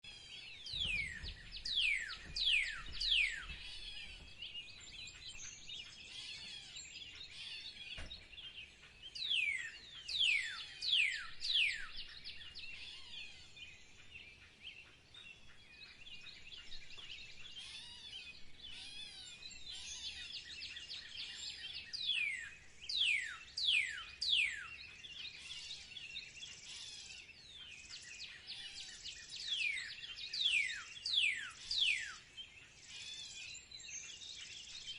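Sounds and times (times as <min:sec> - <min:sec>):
songbirds twittering and chirping: 0:00.0 - 0:34.9.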